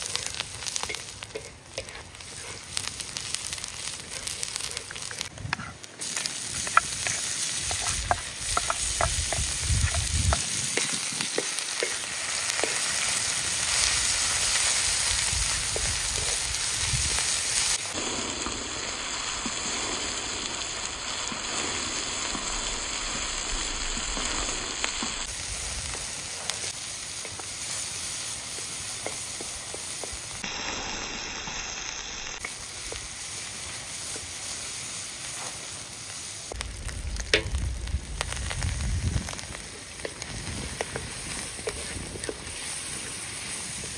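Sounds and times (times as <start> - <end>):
food sizzling as it fries: 0.0 - 43.9.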